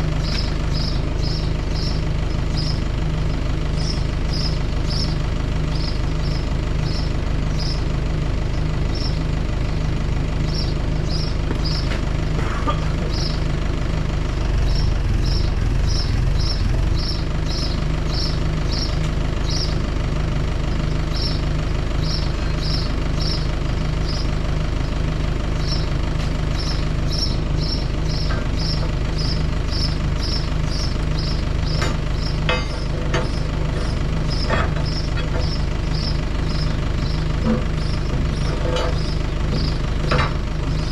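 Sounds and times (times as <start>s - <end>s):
engine running with low hum: 0.0s - 40.9s.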